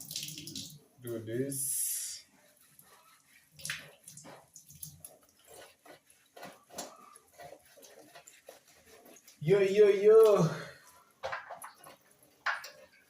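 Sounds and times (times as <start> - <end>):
water splashes and drips: 0.0 - 13.0.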